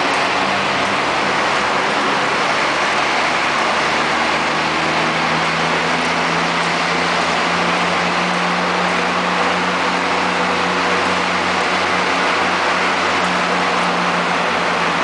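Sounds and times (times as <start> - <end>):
road roar: 0.0 - 15.0
vehicle engine drone: 0.0 - 15.0.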